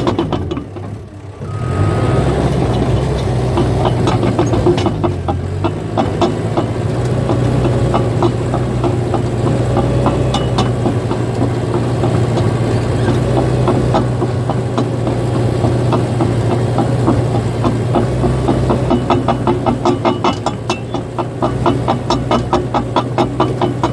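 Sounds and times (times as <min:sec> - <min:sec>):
bulldozer diesel engine running: 0:00.0 - 0:23.9
steel tracks clattering: 0:00.0 - 0:23.9.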